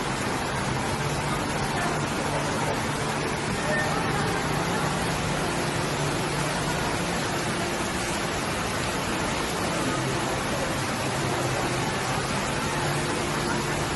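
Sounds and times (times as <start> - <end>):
water fountain splashing: 0.0 - 13.9.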